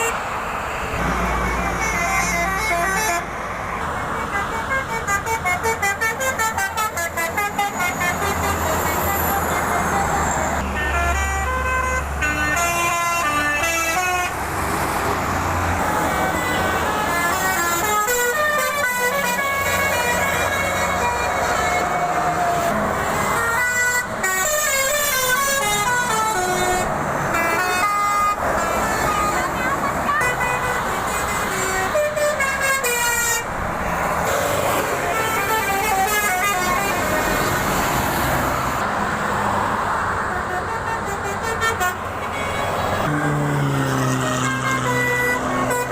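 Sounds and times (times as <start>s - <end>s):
musical bus horn: 0.0s - 0.2s, 0.9s - 14.5s, 15.8s - 33.6s, 34.2s - 38.8s, 40.1s - 45.9s
traffic noise: 0.0s - 45.9s.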